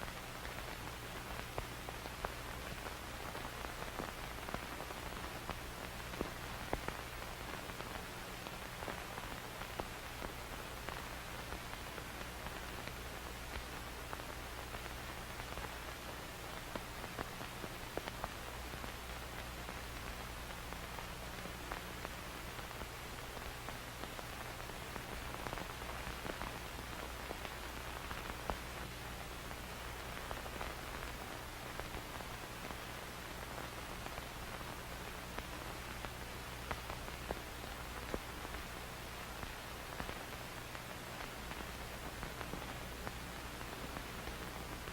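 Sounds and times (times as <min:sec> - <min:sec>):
crackles and pops: 0:00.0 - 0:44.9
film static hiss: 0:00.0 - 0:44.9
low steady hum: 0:00.0 - 0:44.9.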